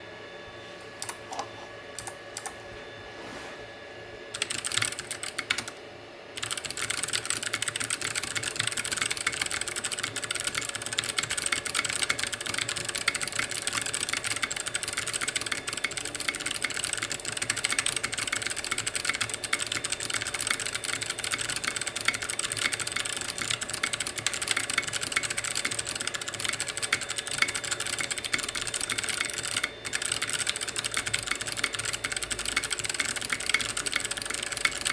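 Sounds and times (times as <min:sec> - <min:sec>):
clicky mechanical keyboard typing: 0:01.0 - 0:02.6, 0:04.3 - 0:05.8, 0:06.4 - 0:34.9.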